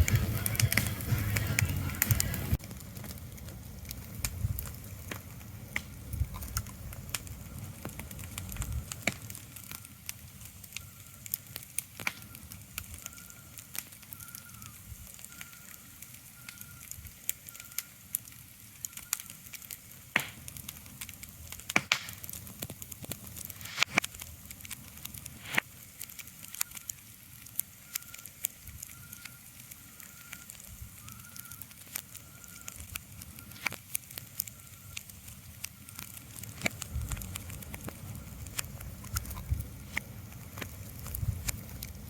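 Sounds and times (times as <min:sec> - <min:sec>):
crackling with sharp pops: 0:00.0 - 0:42.0.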